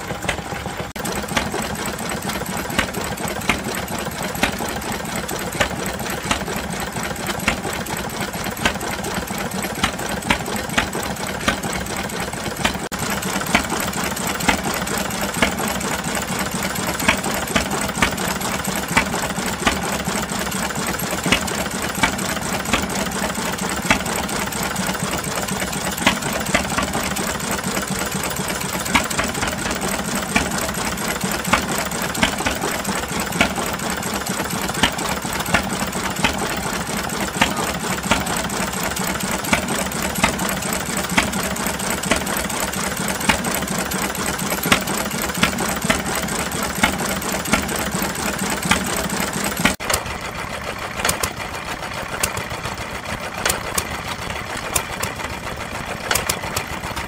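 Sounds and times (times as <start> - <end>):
stationary engine firing beats: 0.0 - 50.1
mechanical rattle and hum: 0.0 - 57.0.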